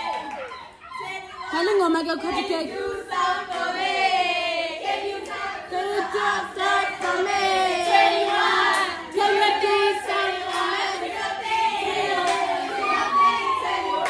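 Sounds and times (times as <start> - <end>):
people clapping: 0.0 - 1.4, 2.7 - 14.0
group singing in chorus: 2.3 - 14.0.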